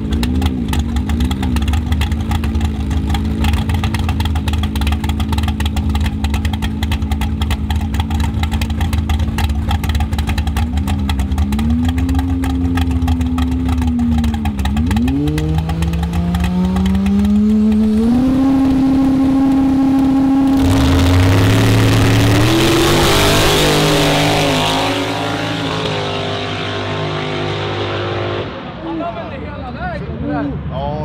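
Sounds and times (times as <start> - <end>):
drag car engine revving: 0.0 - 29.4.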